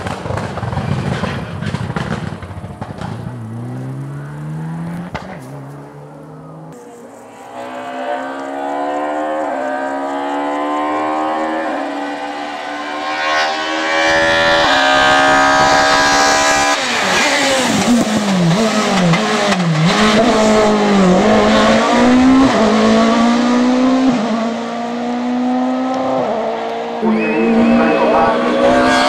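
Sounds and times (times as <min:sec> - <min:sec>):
race car engine revving: 0:01.7 - 0:29.0.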